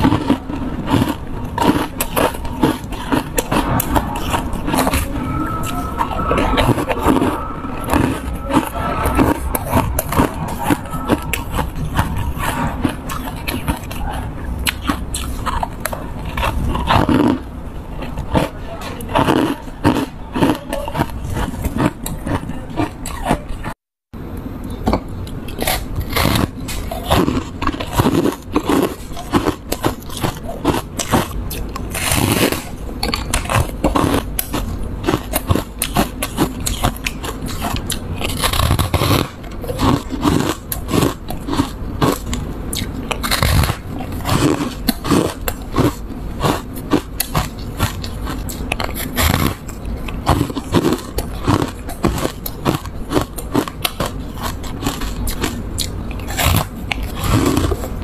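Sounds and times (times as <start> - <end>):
person crunching ice: 0.0 - 23.4, 25.5 - 58.0.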